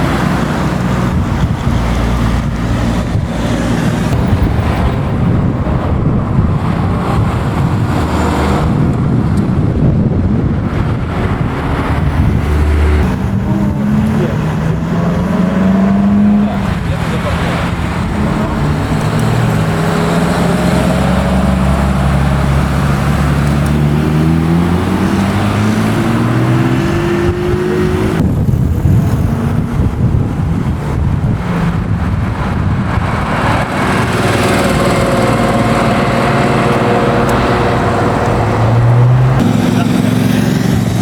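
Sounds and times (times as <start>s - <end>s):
car engine accelerating: 0.0s - 41.0s
second engine running steadily: 0.0s - 41.0s.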